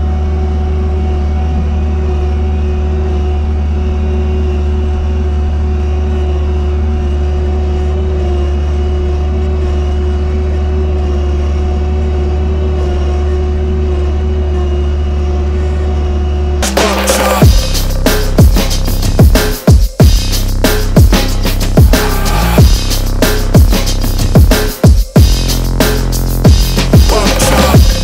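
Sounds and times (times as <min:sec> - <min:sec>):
snow-clearing machine engine drone: 0:00.0 - 0:28.0
steady tone: 0:00.0 - 0:28.0.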